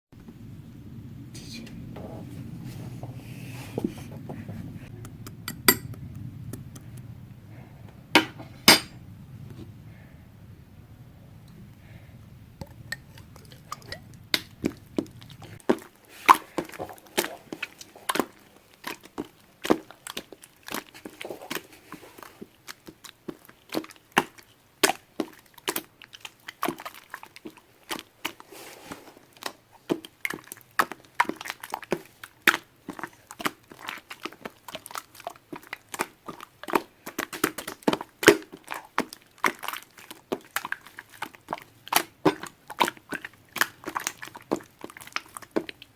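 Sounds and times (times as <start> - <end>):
soft crackling: 0.1 - 45.9.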